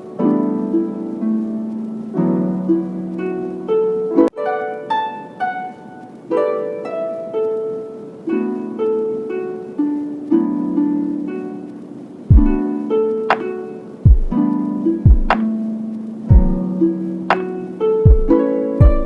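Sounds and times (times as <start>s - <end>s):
plucked melody: 0.0s - 19.0s.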